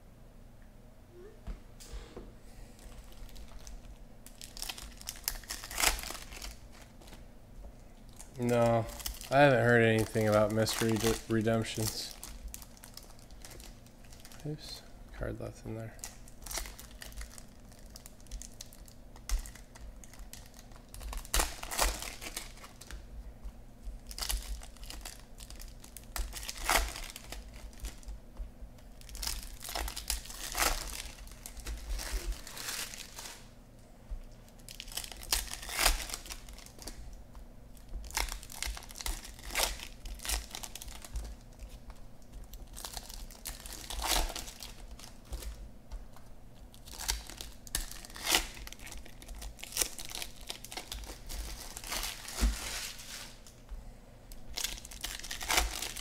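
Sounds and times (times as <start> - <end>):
foil wrappers crinkling and tearing: 2.7 - 7.2, 8.1 - 14.8, 15.8 - 23.1, 23.9 - 33.5, 34.4 - 53.6, 54.3 - 56.0.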